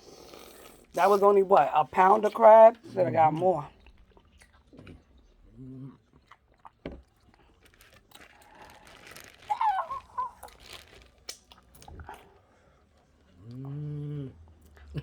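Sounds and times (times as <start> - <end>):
chewing: 2.2 - 15.0.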